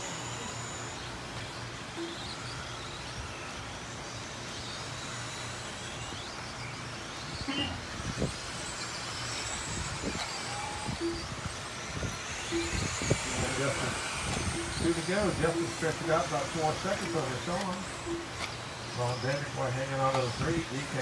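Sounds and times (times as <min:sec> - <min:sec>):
faint whine of electric motors: 0:00.0 - 0:21.0
steady background noise: 0:00.0 - 0:21.0.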